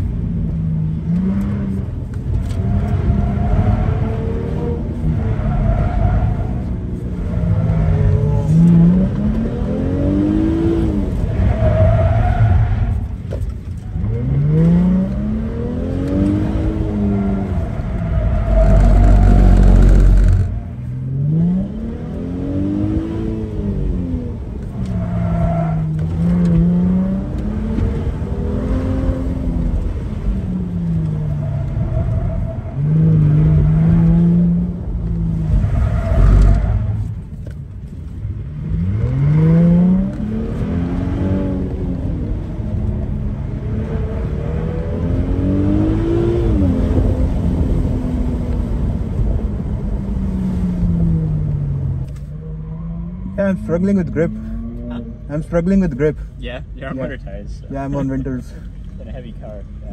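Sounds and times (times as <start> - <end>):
car engine revving: 0.0 - 37.5, 38.2 - 59.9
wind and road noise: 0.0 - 59.9.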